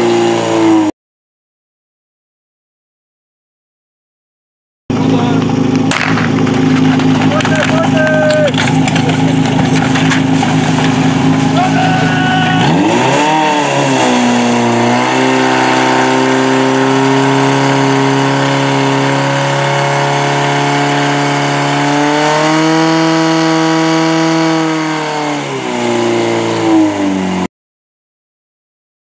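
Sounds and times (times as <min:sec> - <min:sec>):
fire pump engine high revs: 0:00.0 - 0:00.9, 0:04.9 - 0:27.5.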